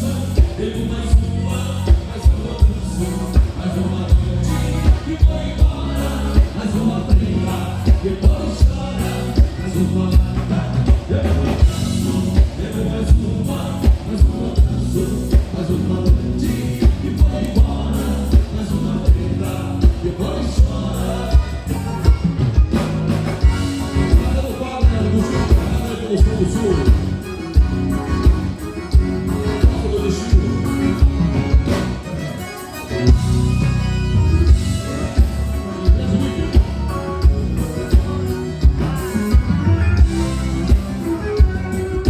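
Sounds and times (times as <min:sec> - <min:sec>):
person singing: 0:00.0 - 0:22.5, 0:23.4 - 0:42.0
live band playing dance music: 0:00.0 - 0:42.0.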